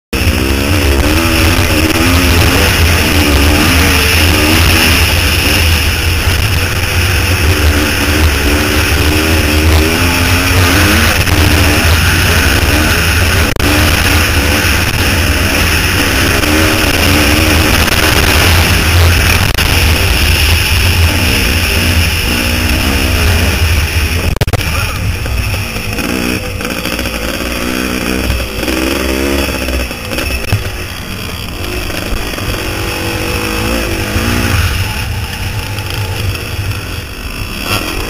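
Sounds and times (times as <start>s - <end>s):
dirt bike engine revving: 0.1s - 38.0s.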